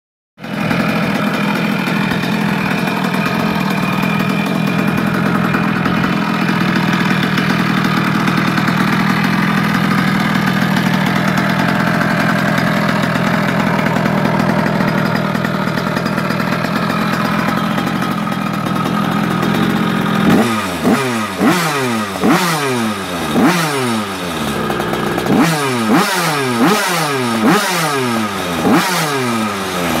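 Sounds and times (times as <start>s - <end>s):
moped engine idling and revving: 0.4s - 30.0s.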